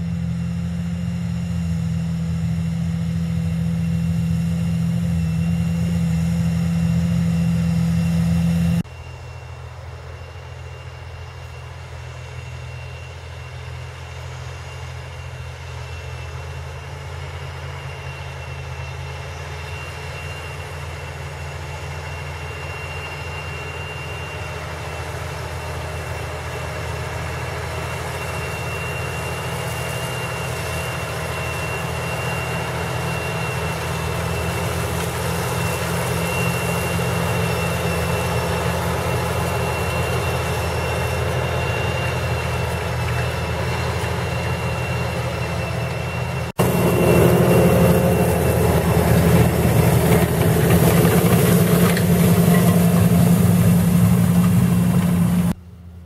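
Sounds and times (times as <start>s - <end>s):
faint high whine: 0.0s - 56.0s
tractor diesel engine running: 0.0s - 56.0s.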